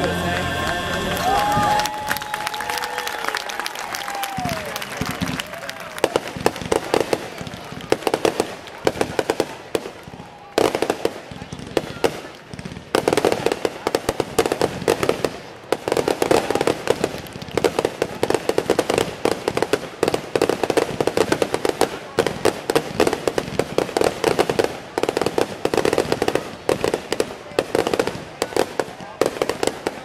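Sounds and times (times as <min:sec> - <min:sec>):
fireworks bangs and crackles: 0:03.8 - 0:30.0.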